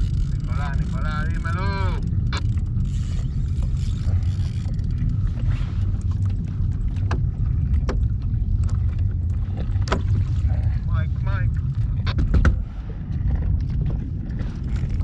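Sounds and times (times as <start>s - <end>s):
water washing against hull: 0.0s - 15.0s
wind on microphone: 0.0s - 15.0s.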